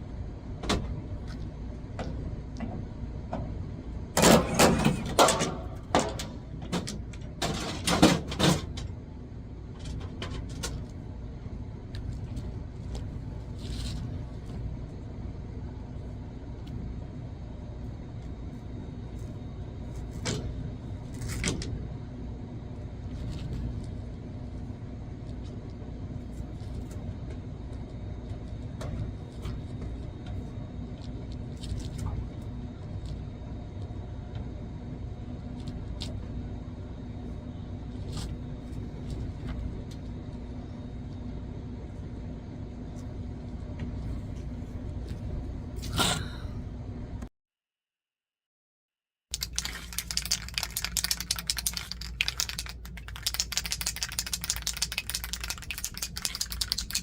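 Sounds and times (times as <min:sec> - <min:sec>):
faint hum: 0:00.0 - 0:47.3, 0:49.3 - 0:57.0
low mechanical rumble: 0:00.0 - 0:47.3, 0:49.4 - 0:57.0.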